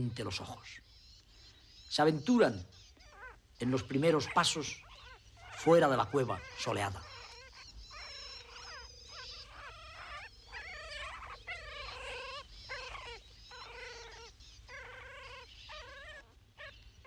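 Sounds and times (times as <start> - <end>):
wolf cubs whimpering: 2.8 - 17.0.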